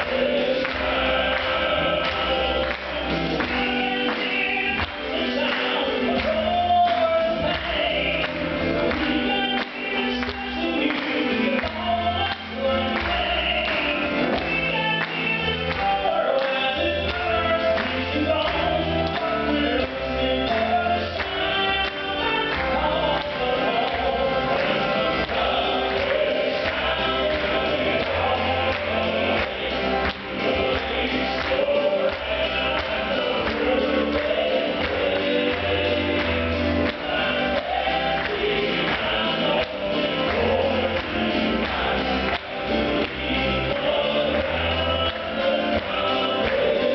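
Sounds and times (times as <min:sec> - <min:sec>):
instrumental accompaniment with beat: 0:00.0 - 0:46.9
male quartet singing in harmony: 0:00.0 - 0:46.9.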